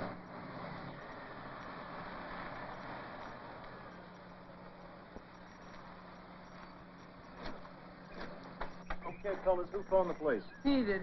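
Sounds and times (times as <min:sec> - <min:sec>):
car engine and road noise: 0:00.0 - 0:11.0
film soundtrack hum and hiss: 0:00.0 - 0:11.0.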